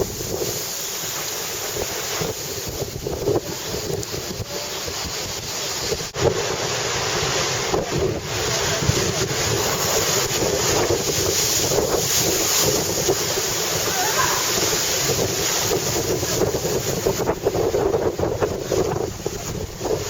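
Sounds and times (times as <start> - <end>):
heavy surf rushing: 0.0 - 20.0
wind buffeting microphone: 0.0 - 20.0.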